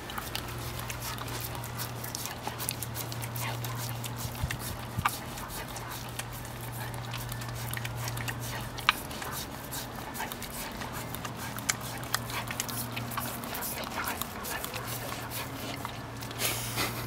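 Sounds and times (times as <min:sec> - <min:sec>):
dog licking brush: 0:00.0 - 0:17.0
steady low hum: 0:00.0 - 0:17.0.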